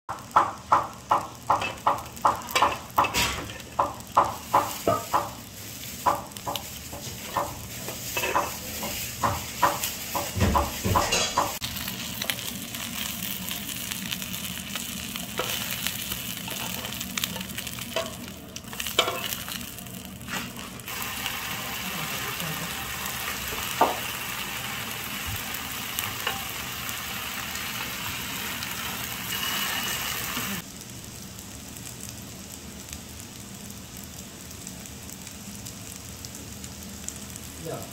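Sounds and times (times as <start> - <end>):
oil sizzling on a griddle: 0.1 - 37.9.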